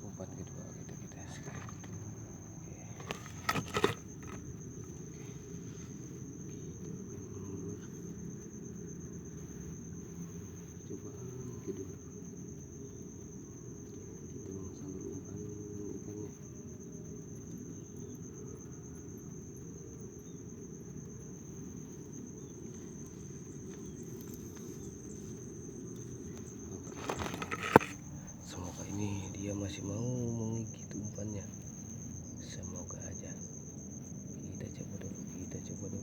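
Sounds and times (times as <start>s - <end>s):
cricket trilling: 0.0s - 36.0s.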